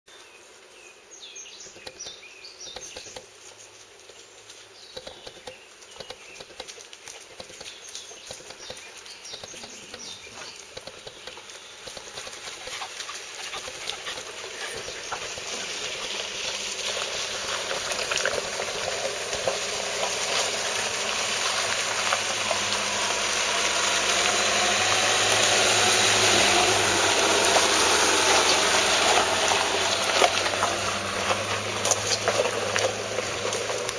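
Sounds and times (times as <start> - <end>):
vehicle engine hum: 1.4 - 33.9
tyres crunching over stones: 2.8 - 33.9.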